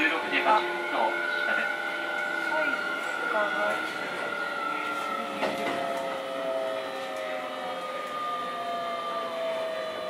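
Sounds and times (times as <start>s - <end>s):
electric train motors whining: 0.0s - 10.0s.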